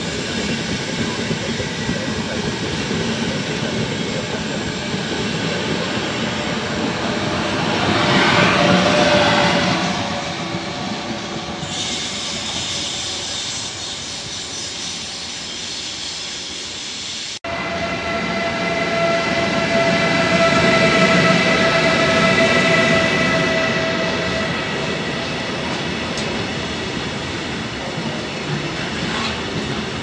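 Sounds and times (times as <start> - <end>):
electric train rolling: 0.0 - 30.0.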